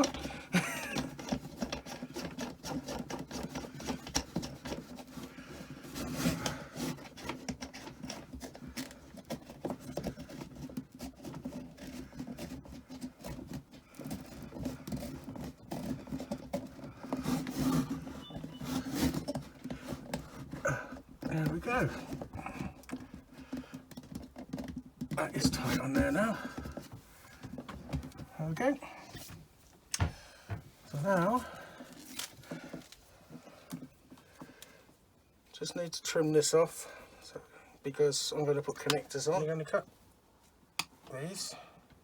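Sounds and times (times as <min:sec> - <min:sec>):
hands rubbing and scraping: 0:00.0 - 0:34.7.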